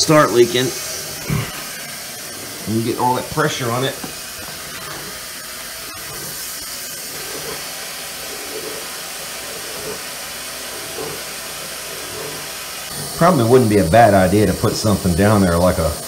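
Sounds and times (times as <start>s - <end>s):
water rushing through pipes: 0.0s - 16.0s.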